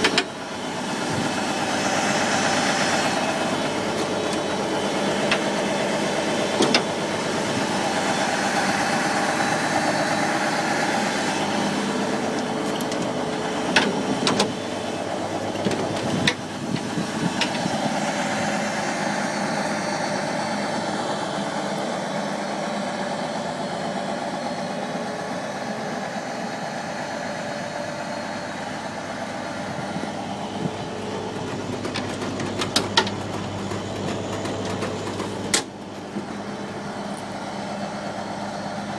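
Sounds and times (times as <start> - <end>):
fire truck engine running: 0.0 - 38.9.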